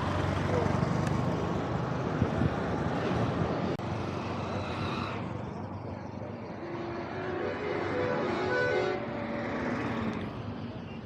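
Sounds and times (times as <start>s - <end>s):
road traffic rumble and hiss: 0.0s - 11.0s.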